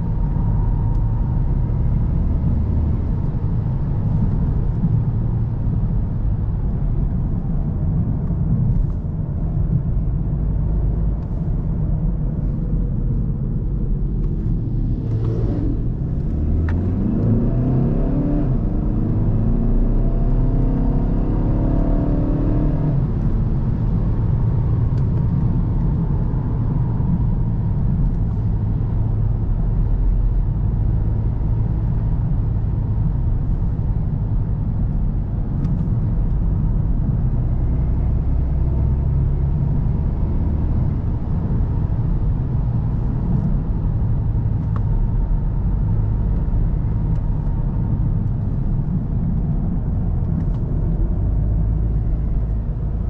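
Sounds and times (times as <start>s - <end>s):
diesel car engine accelerating: 0.0s - 53.0s
road noise: 0.0s - 53.0s.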